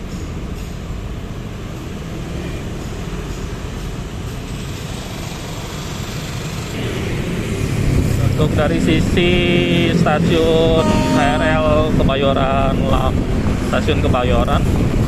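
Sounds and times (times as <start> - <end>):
cars and motorcycles passing: 0.0 - 15.0
road traffic rumble: 0.0 - 15.0.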